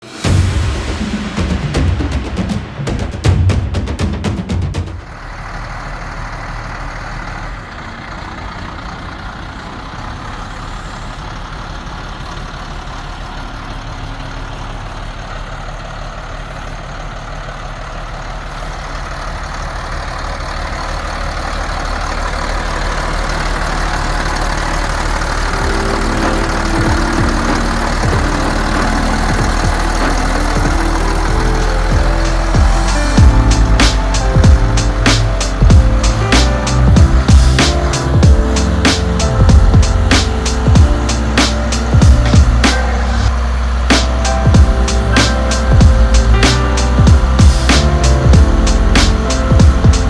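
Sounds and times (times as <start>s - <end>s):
diesel truck engine idling: 4.9s - 50.0s.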